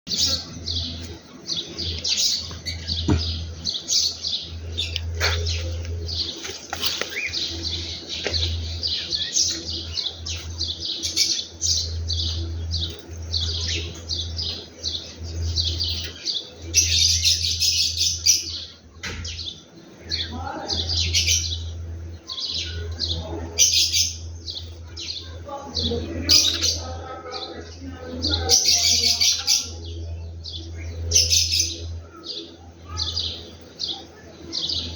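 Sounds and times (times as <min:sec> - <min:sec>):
small birds chirping: 0:00.1 - 0:34.9
steady low hum: 0:00.1 - 0:34.9.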